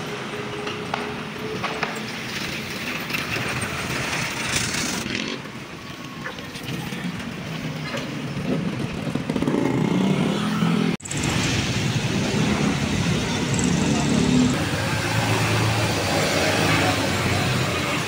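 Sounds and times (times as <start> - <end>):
street traffic: 0.0 - 18.0
vehicle engine running nearby: 0.0 - 18.0.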